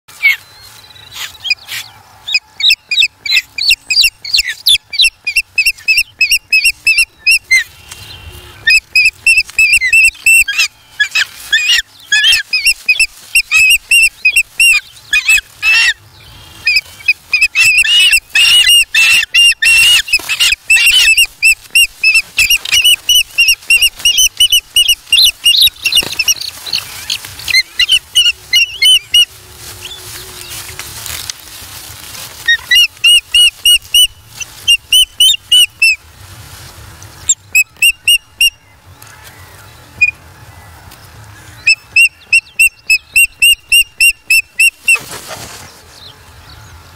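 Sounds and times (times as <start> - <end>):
ospreys chirping: 0.1 - 30.8, 32.4 - 36.0, 41.6 - 45.2.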